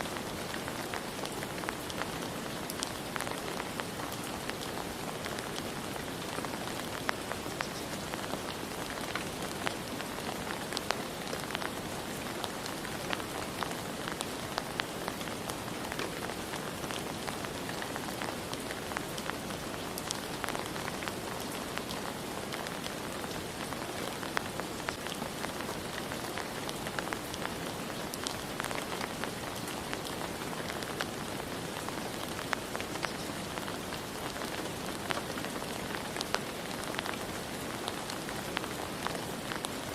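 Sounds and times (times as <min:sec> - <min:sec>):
rain falling: 0:00.0 - 0:39.9
raindrops pattering: 0:00.0 - 0:39.9.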